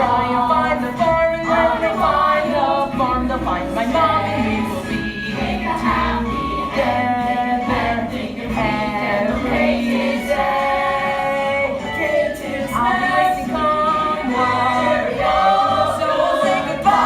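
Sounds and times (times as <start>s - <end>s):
ensemble singing in chorus: 0.0s - 17.0s.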